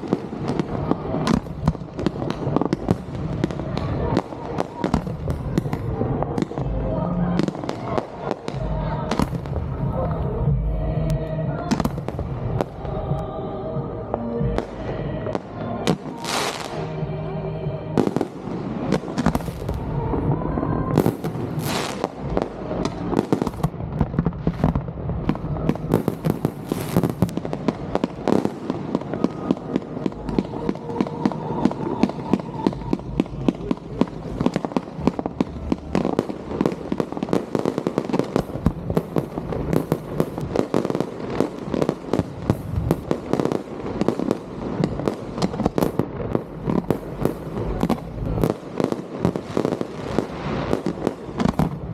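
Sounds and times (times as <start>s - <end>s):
fireworks banging and crackling: 0.0s - 51.9s
music: 2.7s - 51.9s.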